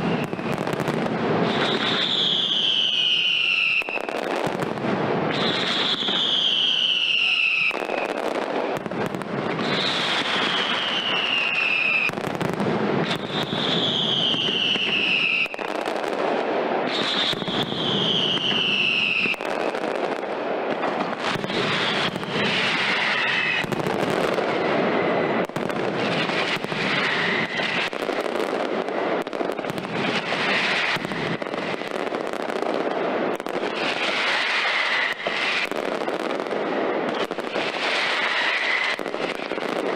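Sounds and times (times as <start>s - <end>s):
firecracker bangs: 0.0s - 39.9s
whistling fireworks shrieking: 0.0s - 39.9s.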